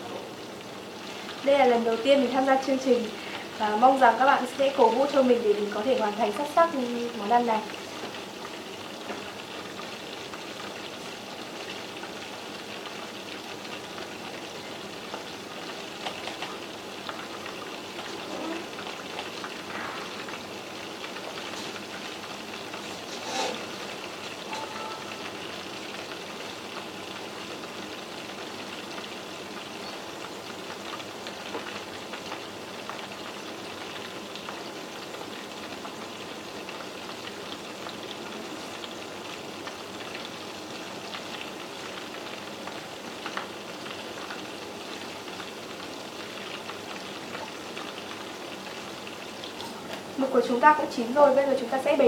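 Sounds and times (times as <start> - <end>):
food deep-frying in oil: 0.0 - 52.0.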